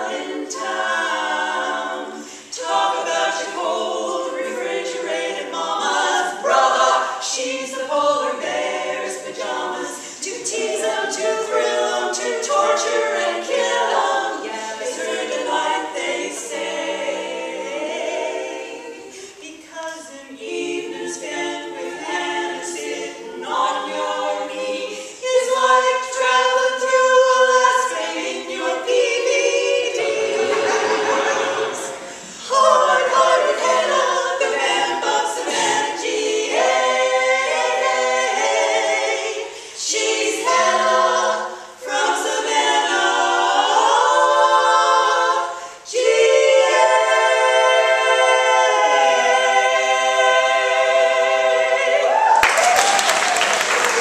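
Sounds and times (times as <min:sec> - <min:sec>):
women singing a cappella: 0:00.0 - 0:53.4.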